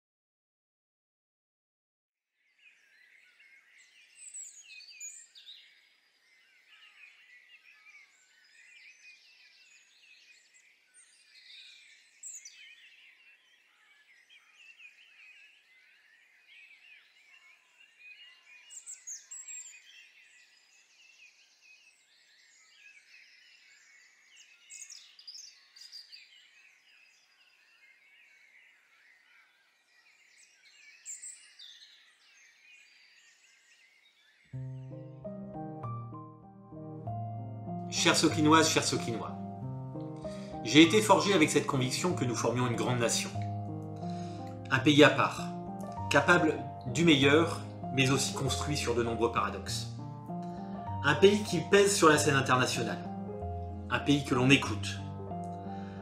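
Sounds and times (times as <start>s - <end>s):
songbirds chirping: 2.4s - 56.0s.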